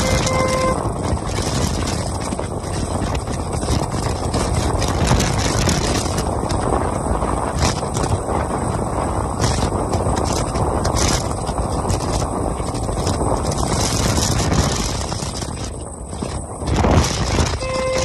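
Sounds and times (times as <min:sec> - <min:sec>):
motorcycle engine at speed: 0:00.0 - 0:18.0
wind rushing over microphone: 0:00.0 - 0:18.0.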